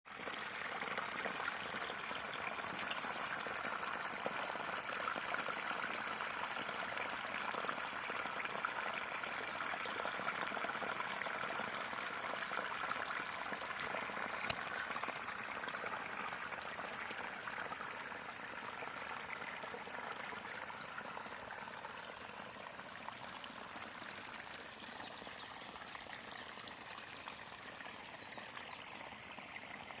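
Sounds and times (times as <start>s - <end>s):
water trickling: 0.1s - 30.0s.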